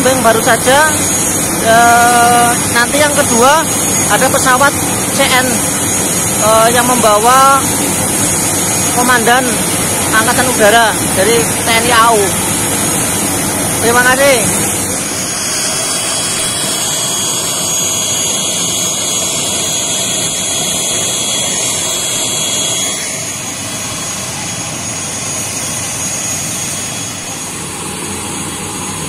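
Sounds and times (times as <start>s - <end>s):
turboprop engine running: 0.0s - 29.0s.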